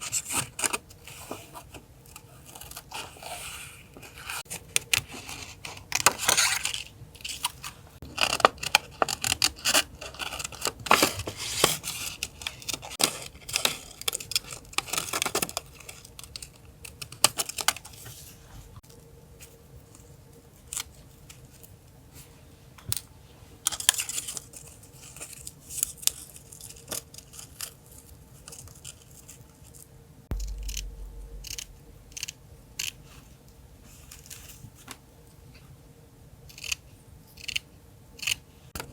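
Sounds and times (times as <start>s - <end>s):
faint background hum: 0.0s - 38.9s.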